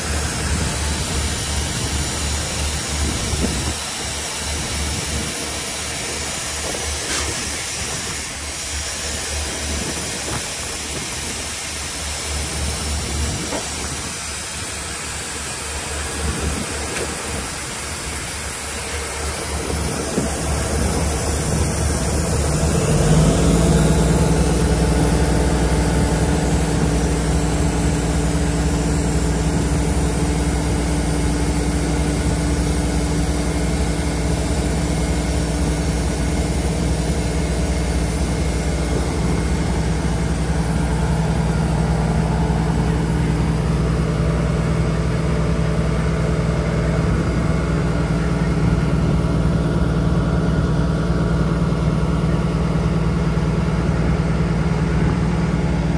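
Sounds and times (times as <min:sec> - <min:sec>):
truck diesel engine idling: 0:00.0 - 0:55.9.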